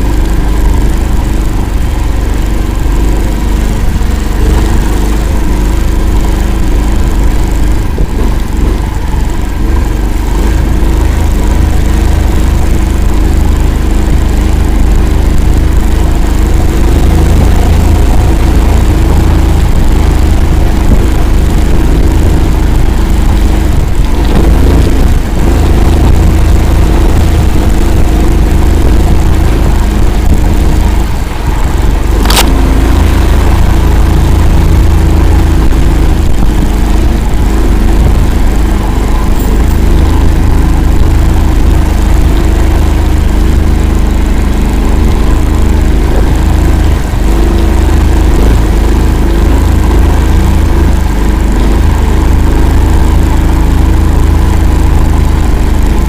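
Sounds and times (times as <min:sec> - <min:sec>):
vehicle engine running loud: 0:00.0 - 0:56.0.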